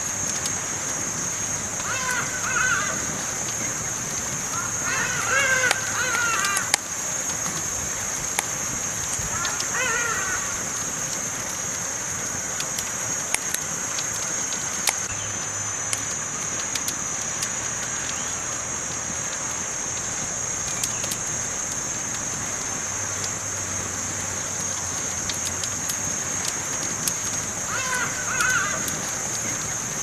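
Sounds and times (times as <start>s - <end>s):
campfire hissing: 0.0s - 30.0s
fire crackles and pops: 0.0s - 30.0s.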